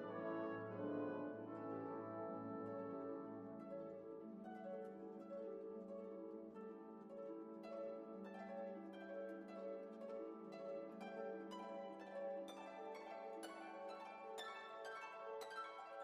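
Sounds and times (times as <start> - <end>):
plucked harp-like music: 0.0 - 16.0.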